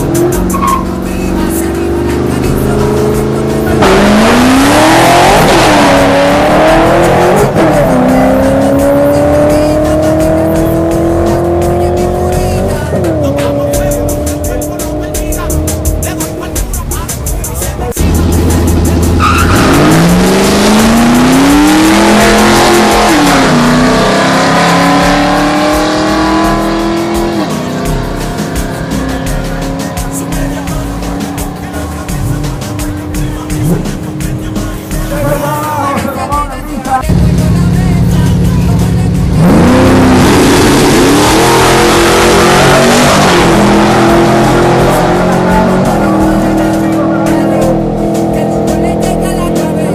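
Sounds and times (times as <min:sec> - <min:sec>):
drag racing engine revving: 0:00.0 - 0:36.0, 0:37.0 - 0:49.9.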